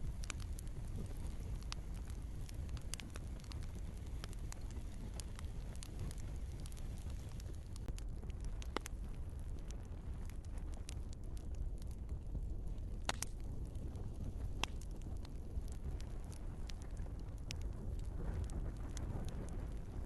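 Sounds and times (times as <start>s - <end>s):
log fire crackling: 0.0s - 20.0s.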